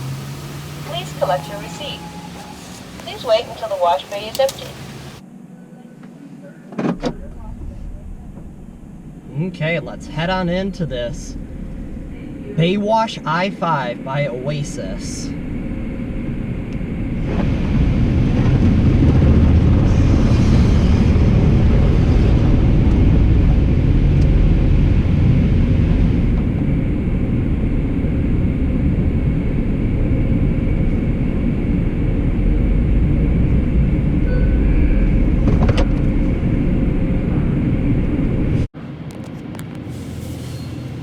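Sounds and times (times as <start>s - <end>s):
car engine low rumble: 0.0s - 41.0s.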